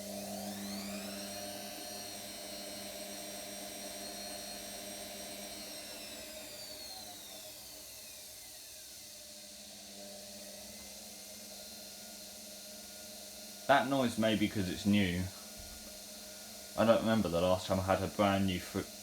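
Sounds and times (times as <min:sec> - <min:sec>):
washing machine motor spinning: 0:00.0 - 0:19.0.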